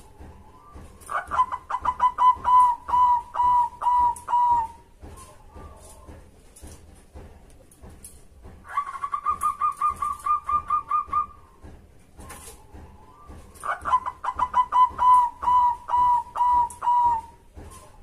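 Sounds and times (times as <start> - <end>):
dove cooing: 0.0 - 6.1, 8.7 - 11.5, 12.2 - 18.0.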